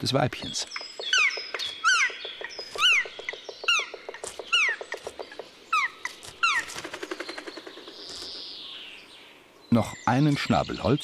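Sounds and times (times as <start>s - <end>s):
woodpecker calls: 0.0s - 9.1s.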